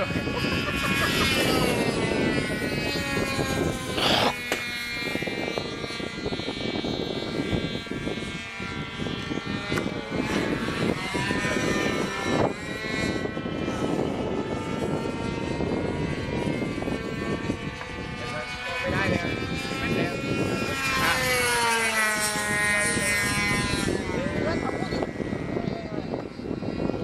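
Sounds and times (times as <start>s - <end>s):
model airplane motor drone: 0.0s - 27.0s.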